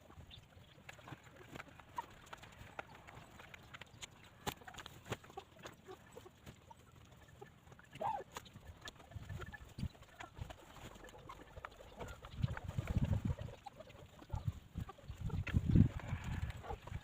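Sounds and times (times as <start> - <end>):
hen clucking: 0.0 - 17.0
hens pecking at the ground: 0.0 - 17.0.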